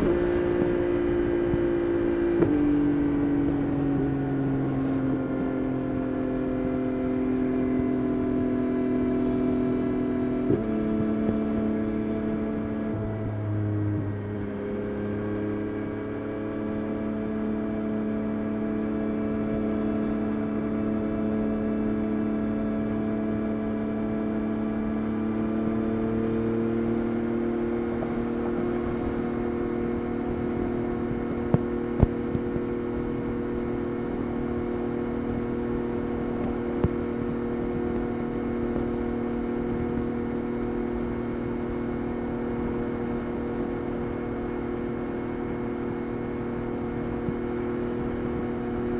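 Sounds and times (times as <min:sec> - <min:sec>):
motorcycle engine while riding: 0:00.0 - 0:48.9.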